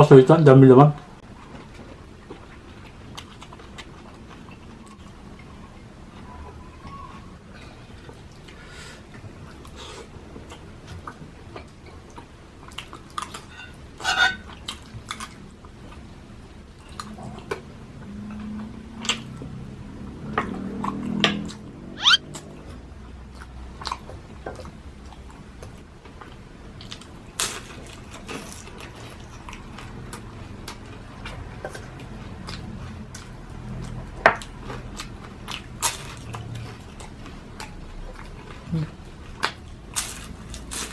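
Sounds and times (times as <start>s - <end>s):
close-up chewing: 1.2s - 6.2s, 6.9s - 13.8s, 14.4s - 19.6s, 20.5s - 40.9s.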